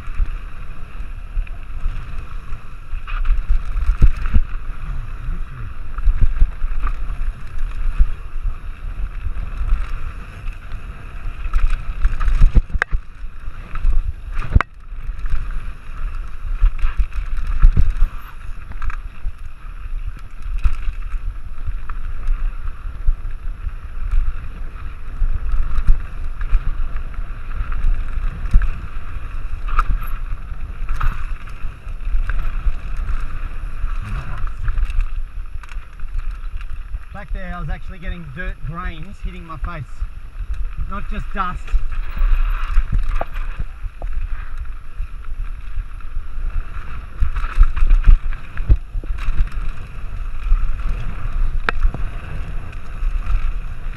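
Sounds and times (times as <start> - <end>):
bike rattling over bumps: 0.0 - 53.9
tyres rumbling on dirt: 0.0 - 53.9
wind buffeting microphone: 0.0 - 53.9.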